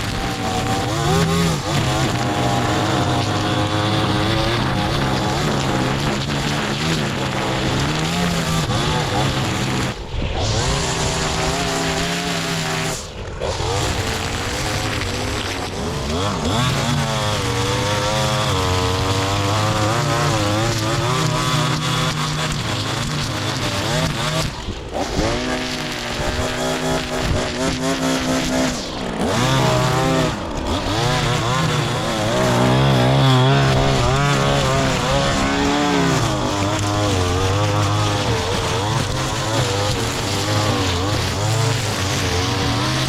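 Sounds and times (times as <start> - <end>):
small gas engine revving: 0.0 - 43.0.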